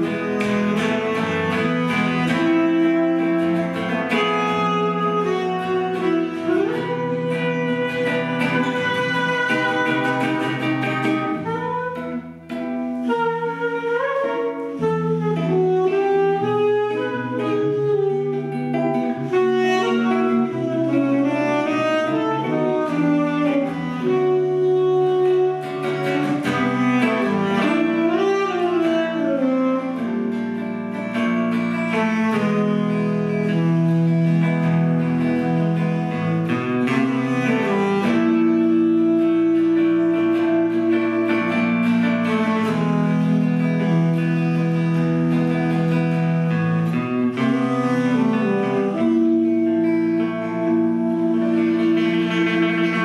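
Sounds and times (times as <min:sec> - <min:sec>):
electric jazz guitar: 0:00.0 - 0:53.0
saxophone playing jazz: 0:00.0 - 0:53.0.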